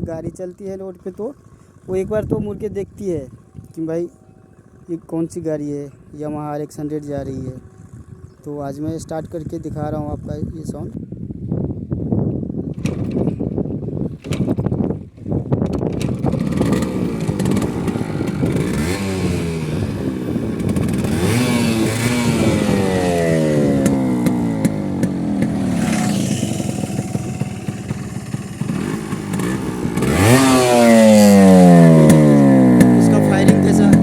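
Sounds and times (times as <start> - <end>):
motorcycle engine revving: 0.0 - 10.0, 12.6 - 34.0.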